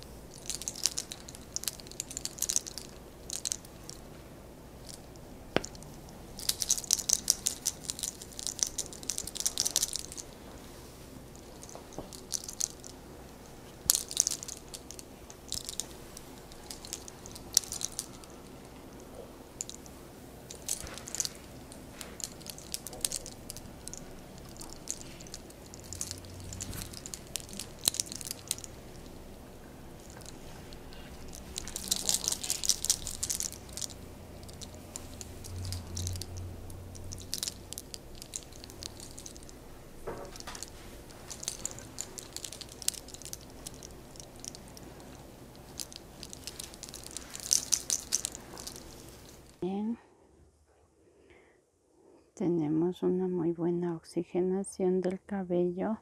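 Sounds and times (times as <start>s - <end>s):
hair crackling and popping: 0.0s - 49.6s.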